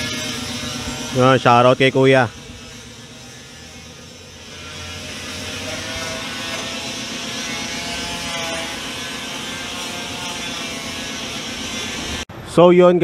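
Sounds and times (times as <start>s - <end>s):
power buffer polishing metal: 0.0s - 12.2s.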